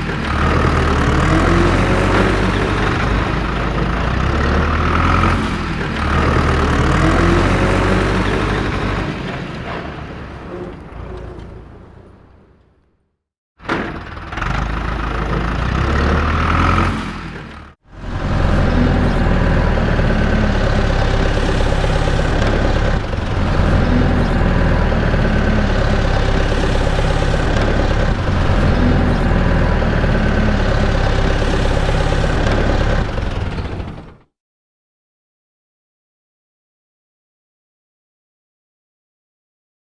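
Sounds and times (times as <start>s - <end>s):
engine running: 0.0s - 13.0s, 13.7s - 34.2s.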